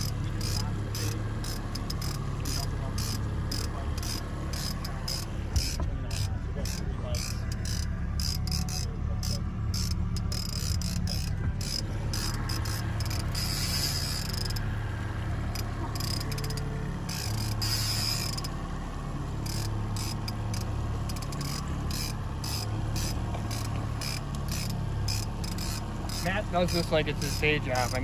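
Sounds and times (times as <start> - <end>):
fishing reel clicking and ratcheting: 0.0 - 14.7, 15.5 - 18.6, 19.4 - 28.0
outboard motor running: 0.0 - 28.0.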